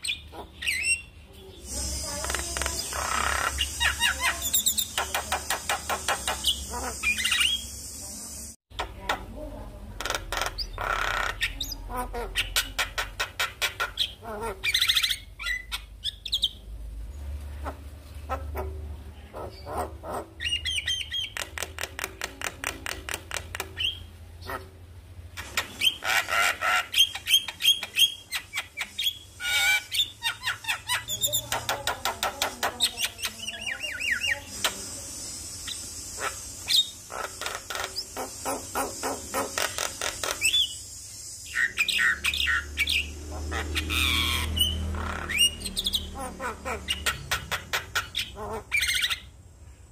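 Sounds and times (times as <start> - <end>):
myna chattering and whistling: 0.0 - 16.6, 25.4 - 49.3.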